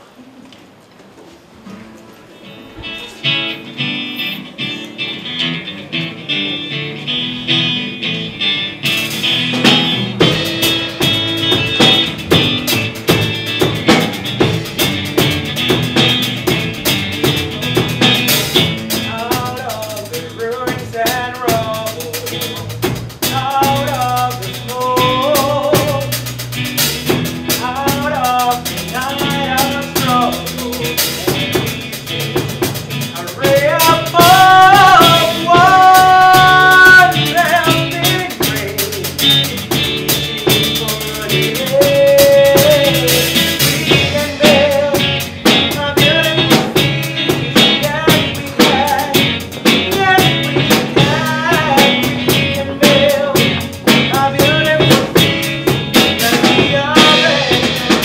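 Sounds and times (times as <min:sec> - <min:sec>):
strummed guitar: 0:01.6 - 0:58.0
drum kit: 0:02.8 - 0:58.0
man singing: 0:08.8 - 0:14.0, 0:15.6 - 0:26.4, 0:27.0 - 0:58.0.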